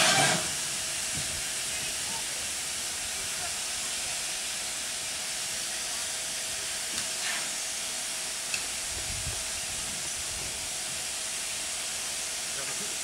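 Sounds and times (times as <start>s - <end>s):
steam locomotive hissing steam: 0.0s - 13.0s.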